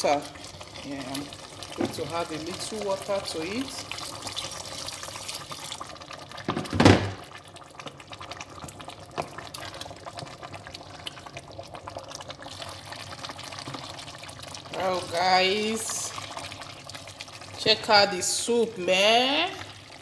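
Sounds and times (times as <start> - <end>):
water pouring into a pot: 0.0 - 20.0.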